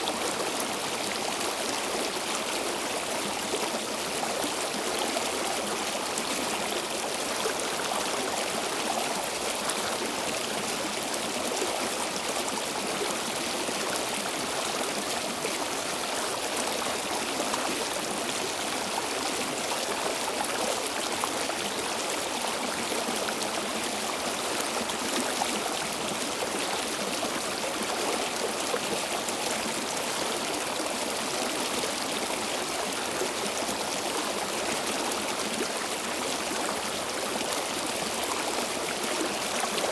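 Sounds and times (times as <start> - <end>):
stream water flowing over stones: 0.0 - 39.9.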